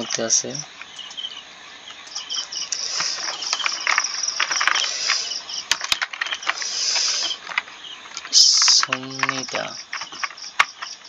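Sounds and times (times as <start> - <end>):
crickets chirping: 0.0 - 11.0
keyboard typing: 1.9 - 11.0.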